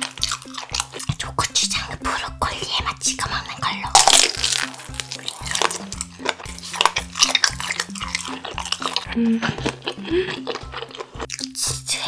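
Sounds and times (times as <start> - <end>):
background music: 0.0 - 12.0
wet chewing: 0.0 - 12.0.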